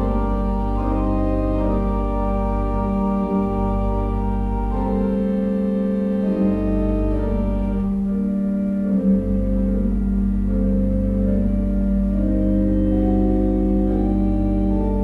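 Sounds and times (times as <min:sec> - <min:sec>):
church organ chords: 0:00.0 - 0:15.0
low organ pedal bass: 0:00.0 - 0:15.0.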